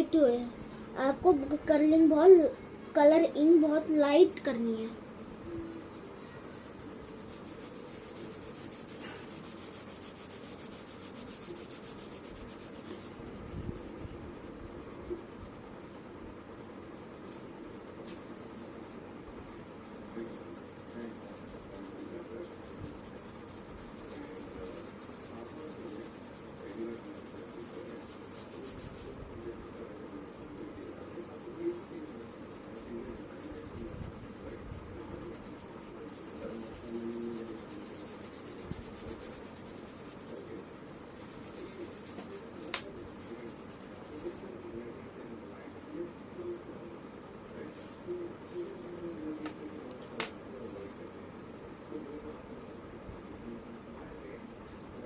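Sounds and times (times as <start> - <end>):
crayon scratching on paper: 1.0 - 16.1, 19.7 - 49.8.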